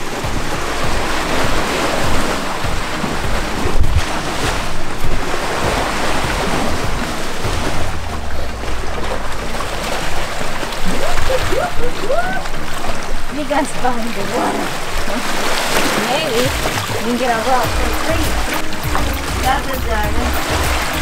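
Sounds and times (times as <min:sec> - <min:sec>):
water washing against rocky shore: 0:00.0 - 0:21.0
wind rumbling on microphone: 0:00.0 - 0:21.0.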